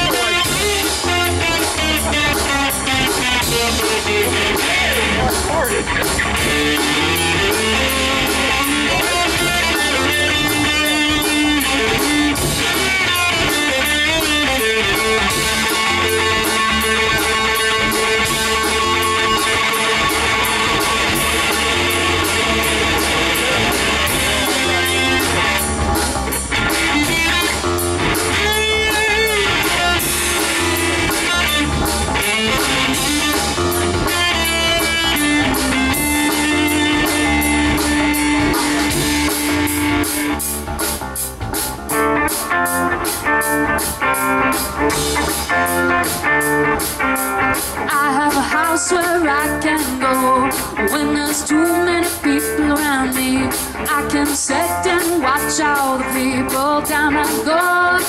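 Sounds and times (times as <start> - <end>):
bending electric guitar notes: 0.0 - 58.0
rock band playing: 0.0 - 58.0
steady drum beat: 0.0 - 58.0.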